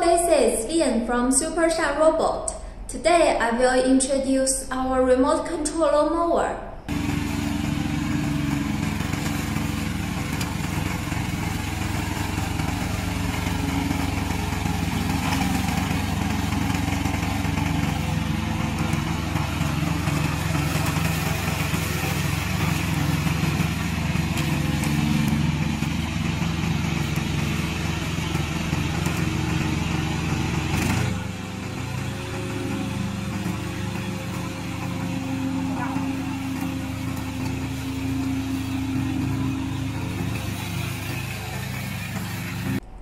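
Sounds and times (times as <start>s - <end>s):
mower cutting dry grass: 6.9s - 42.8s
mower engine running: 6.9s - 42.8s.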